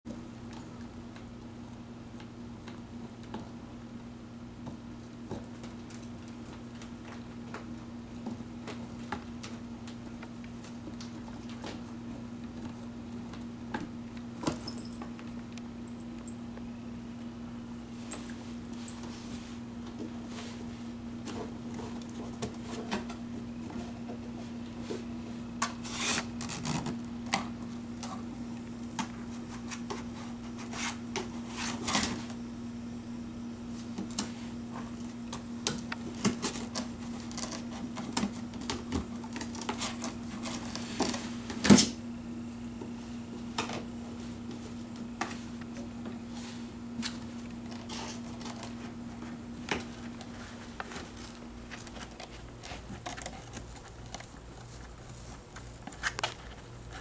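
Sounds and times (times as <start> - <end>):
steady low hum: 0.1 - 57.0.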